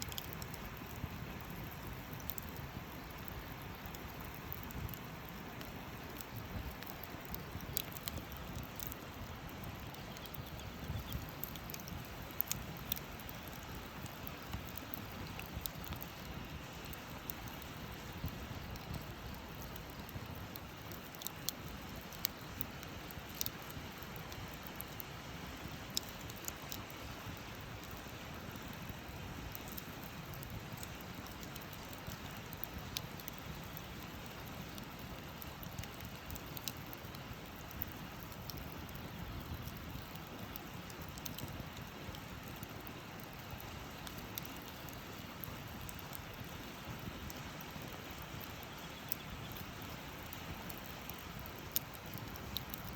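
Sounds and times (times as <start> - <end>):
campfire crackling and popping: 0.0 - 52.9.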